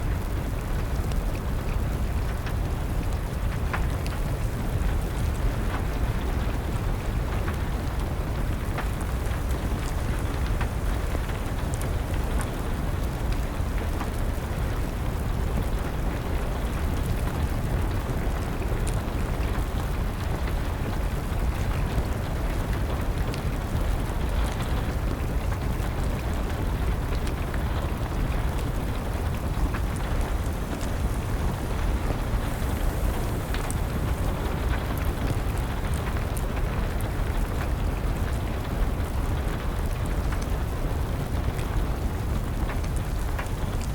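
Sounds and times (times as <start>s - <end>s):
steady rain: 0.0s - 43.9s
wood fire crackling: 0.0s - 43.9s.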